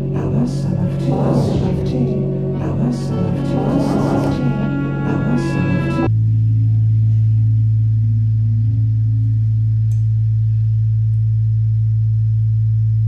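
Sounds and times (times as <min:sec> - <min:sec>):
low electronic drone: 0:00.0 - 0:13.0.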